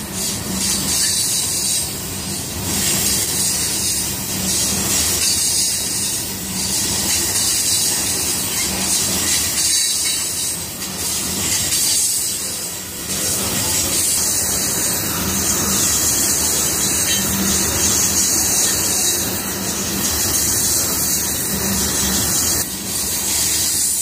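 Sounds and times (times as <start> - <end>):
freight train wheels rumbling on rail: 0.0 - 24.0.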